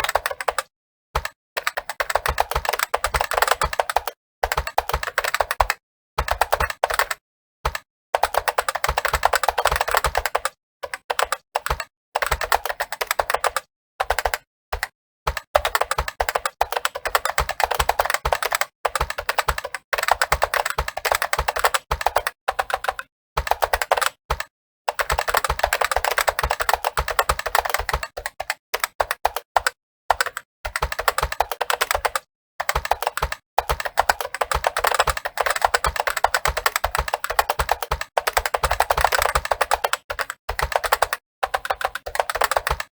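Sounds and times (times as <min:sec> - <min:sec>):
fast typing on keyboard: 0:00.0 - 0:42.9.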